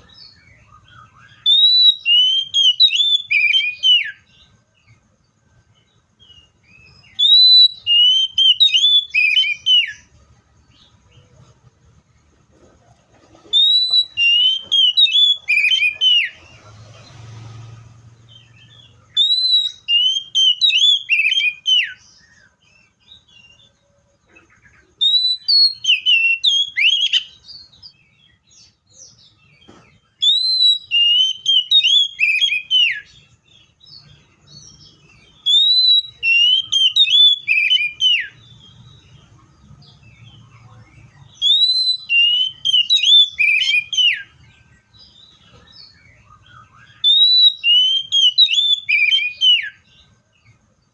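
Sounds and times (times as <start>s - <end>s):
bird singing whistled phrases: 0.0s - 4.6s, 6.2s - 10.1s, 13.5s - 16.5s, 18.3s - 23.8s, 24.6s - 39.3s, 39.9s - 50.1s.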